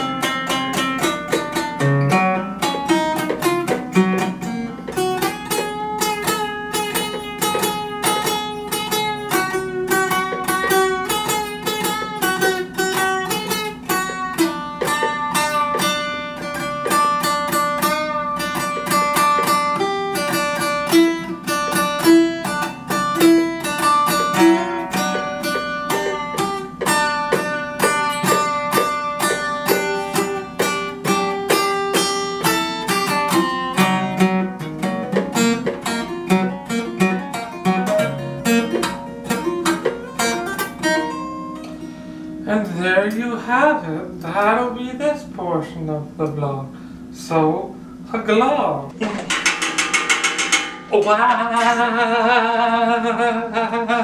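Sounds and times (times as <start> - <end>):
acoustic guitar fast picking: 0.0 - 45.8, 49.0 - 54.0.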